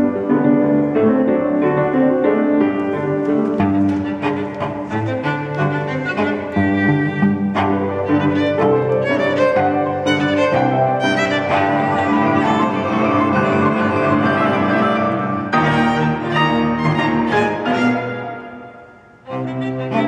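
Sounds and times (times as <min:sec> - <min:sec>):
violin cello and piano chamber music: 0:00.0 - 0:20.0.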